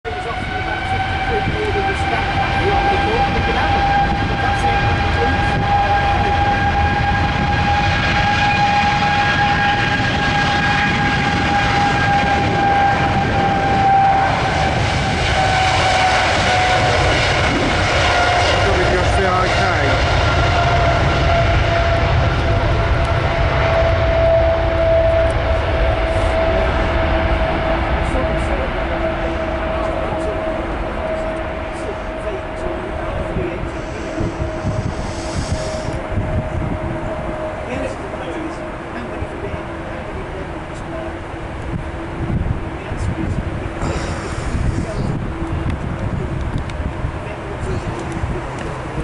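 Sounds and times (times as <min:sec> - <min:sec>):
jet engines at take-off power: 0:00.1 - 0:49.0.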